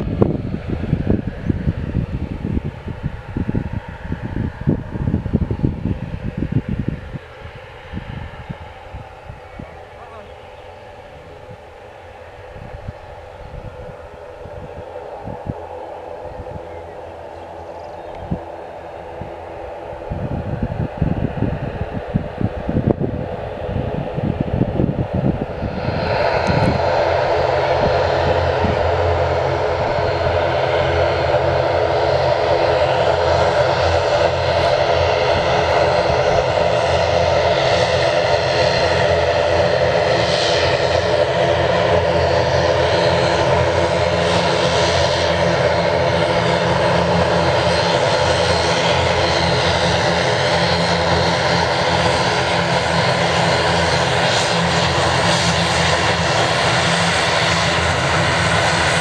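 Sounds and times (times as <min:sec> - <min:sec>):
turboprop propeller drone: 0:00.0 - 0:59.0.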